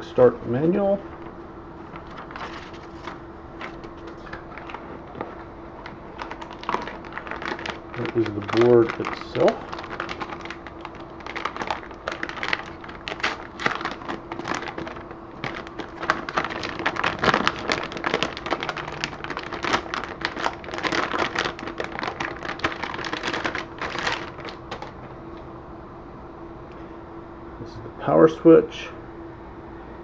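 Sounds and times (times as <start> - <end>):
plastic bag crinkling: 0.9 - 25.0.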